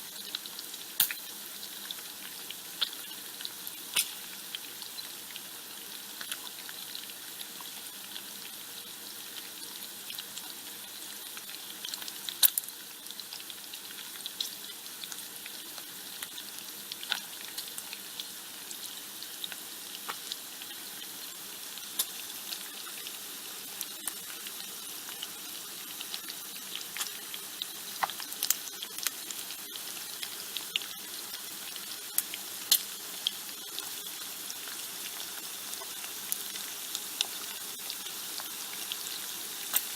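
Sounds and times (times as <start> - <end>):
bacon sizzling in a pan: 0.0 - 39.9.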